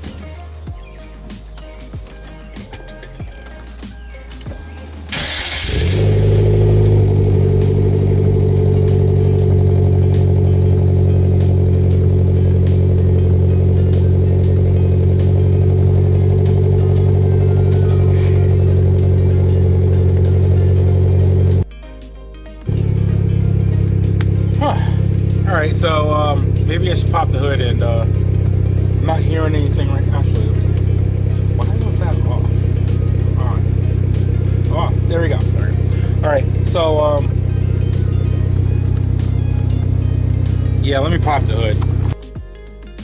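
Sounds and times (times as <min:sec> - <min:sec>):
car engine cranking and idling: 0:00.9 - 0:21.6, 0:22.7 - 0:42.2.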